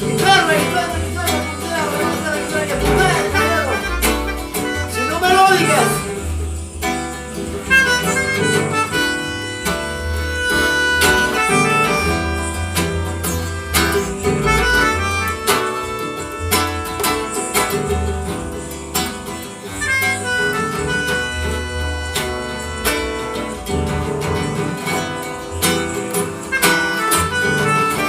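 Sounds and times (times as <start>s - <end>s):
plucked guitar: 0.0s - 28.0s
pulsing bass line: 0.0s - 28.0s
reed instrument melody: 0.0s - 28.0s.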